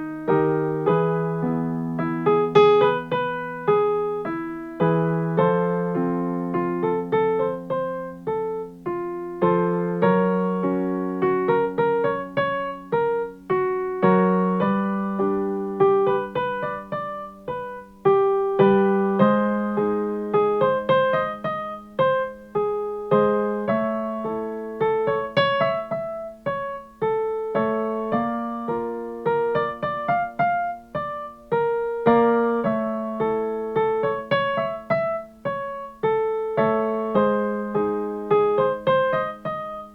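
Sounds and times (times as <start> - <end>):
piano notes over chords: 0.0 - 39.9.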